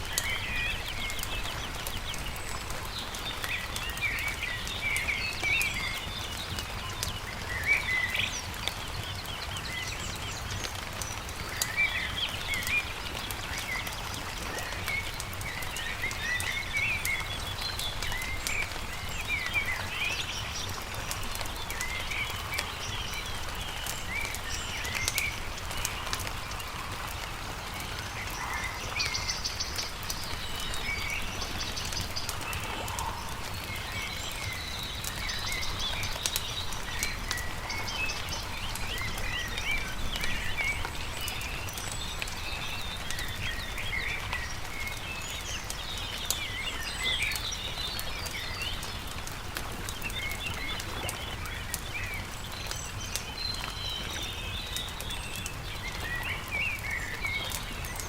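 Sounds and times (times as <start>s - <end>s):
campfire crackling: 0.0s - 58.0s
small birds singing: 0.0s - 58.0s.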